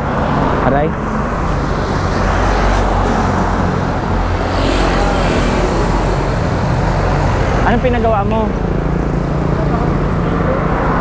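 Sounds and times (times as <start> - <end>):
motorcycle passing: 0.0 - 11.0
roadside traffic: 0.0 - 11.0.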